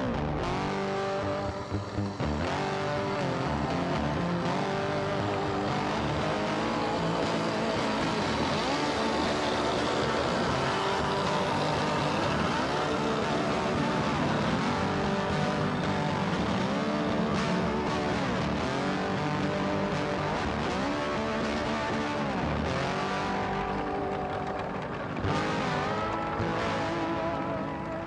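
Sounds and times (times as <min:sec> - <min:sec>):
diesel train engine drone: 0:00.0 - 0:28.0
wheels rolling on rails: 0:00.5 - 0:16.4, 0:20.5 - 0:28.0.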